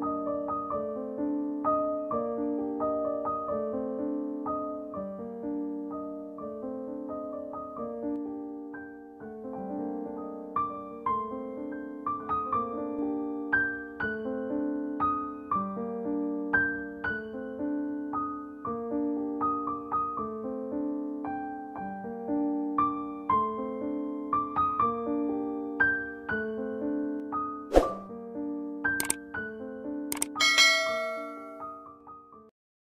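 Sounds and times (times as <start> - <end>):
piano melody: 0.0 - 32.5.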